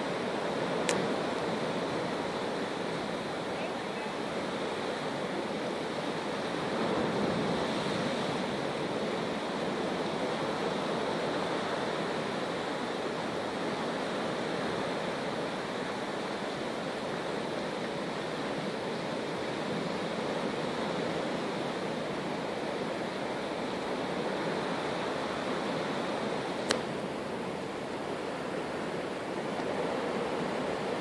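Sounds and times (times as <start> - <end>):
foaming sea water rushing: 0.0 - 31.0
wind: 0.0 - 31.0.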